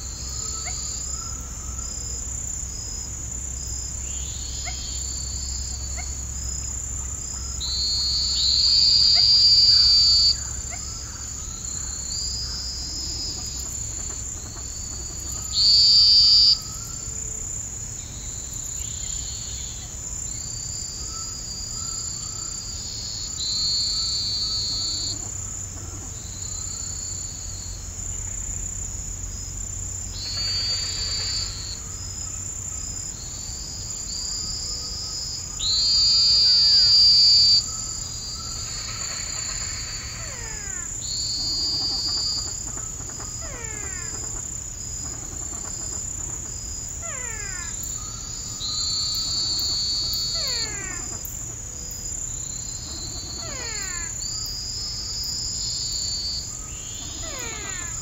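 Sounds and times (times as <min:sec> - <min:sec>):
crickets trilling: 0:00.0 - 0:58.0
loud insect calls: 0:00.0 - 0:58.0.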